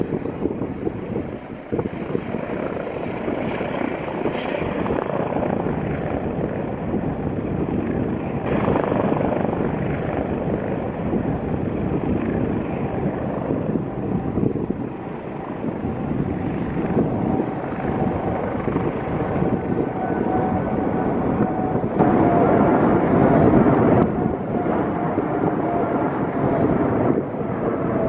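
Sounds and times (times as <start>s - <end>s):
jet engines at takeoff: 0.0s - 28.0s
wind buffeting microphone: 0.0s - 28.0s.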